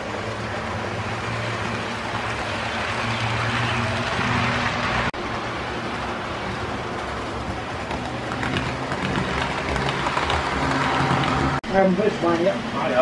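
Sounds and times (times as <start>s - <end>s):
model trains humming on track: 0.0s - 13.0s.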